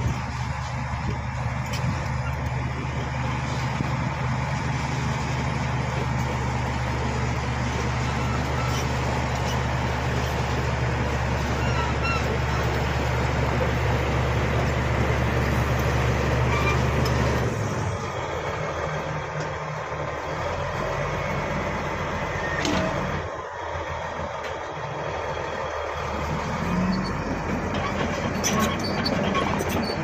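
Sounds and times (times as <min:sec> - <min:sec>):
bulldozer diesel engine running hard: 0:00.0 - 0:30.0
track and ground noise: 0:00.0 - 0:30.0.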